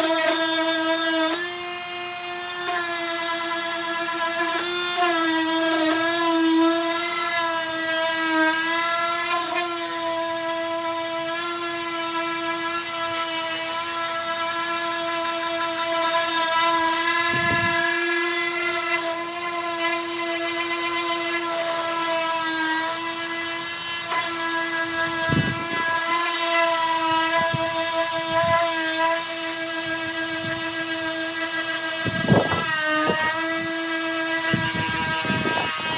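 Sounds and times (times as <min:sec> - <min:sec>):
electric sander whining: 0:00.0 - 0:35.9.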